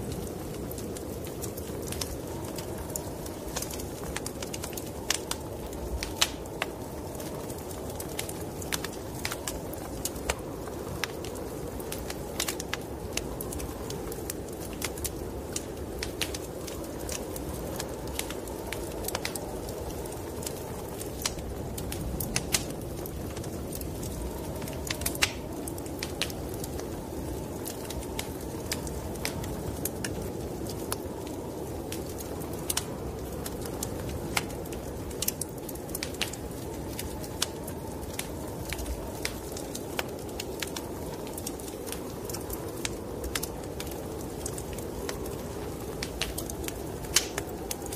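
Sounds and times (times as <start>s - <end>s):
snowstorm wind rushing: 0.0s - 47.9s
wood fire crackling and popping: 0.0s - 47.9s.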